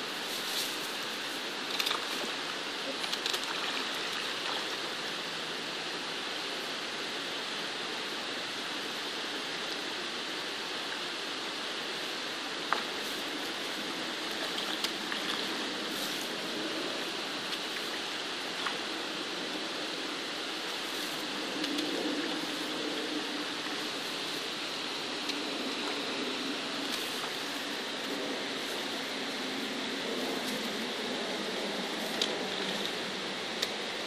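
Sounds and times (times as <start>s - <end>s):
brook water rushing: 0.8s - 34.0s.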